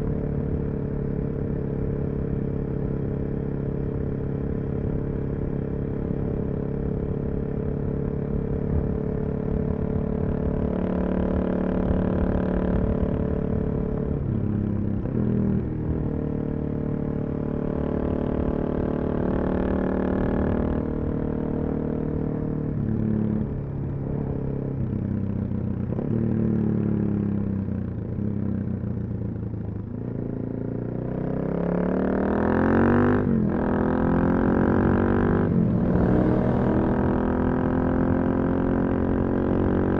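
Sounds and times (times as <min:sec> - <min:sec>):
motorcycle engine revving: 0:00.6 - 0:39.9.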